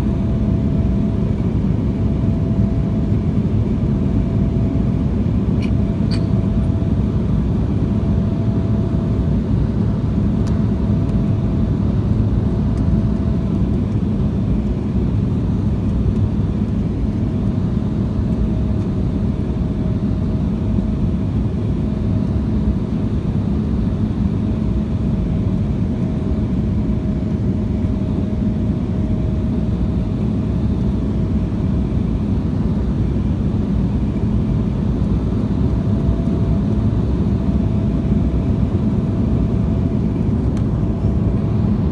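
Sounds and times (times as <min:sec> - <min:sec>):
airliner cabin roar: 0:00.0 - 0:41.9.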